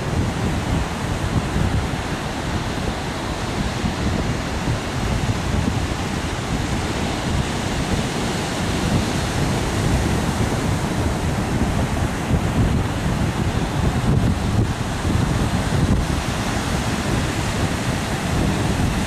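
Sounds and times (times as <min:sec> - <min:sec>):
surf washing onto beach: 0:00.0 - 0:19.0
wind buffeting microphone: 0:00.0 - 0:19.0.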